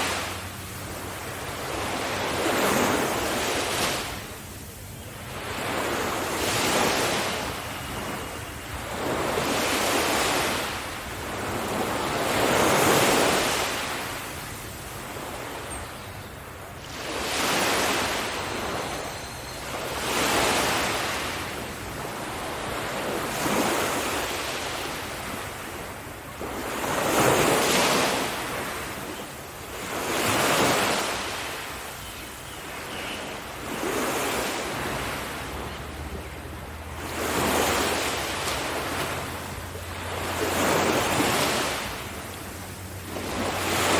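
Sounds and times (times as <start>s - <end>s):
sea waves washing up beach: 0.0s - 15.6s, 16.7s - 32.0s, 32.8s - 43.9s.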